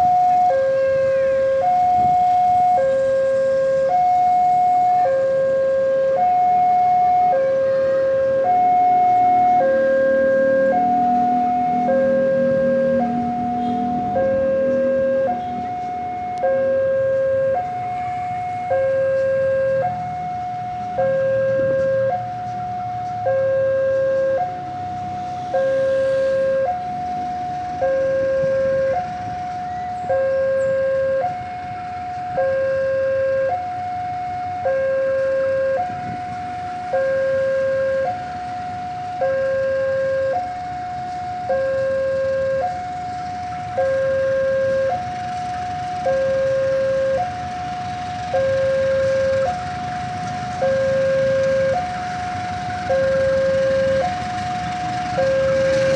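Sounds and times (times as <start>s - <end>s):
two-tone crossing alarm: 0.0s - 55.9s.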